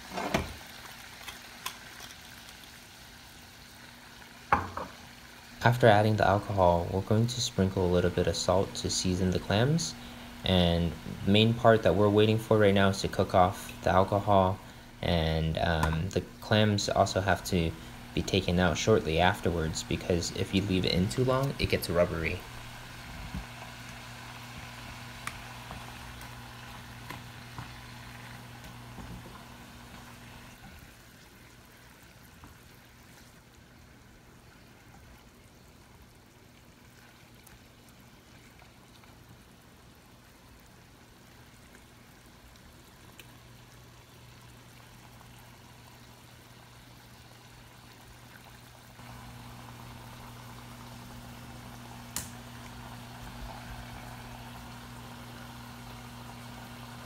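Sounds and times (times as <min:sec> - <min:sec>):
liquid bubbling in a saucepan: 0:00.0 - 0:57.0
low steady hum: 0:03.6 - 0:57.0.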